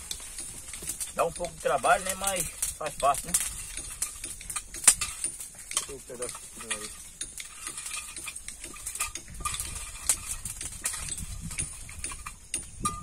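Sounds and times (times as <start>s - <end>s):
small knocks clicks and scraping: 0.0s - 13.0s.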